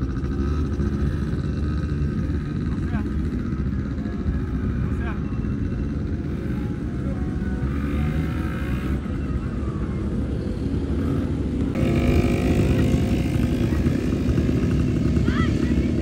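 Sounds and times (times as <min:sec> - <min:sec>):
quad bike engines droning: 0:00.0 - 0:16.0.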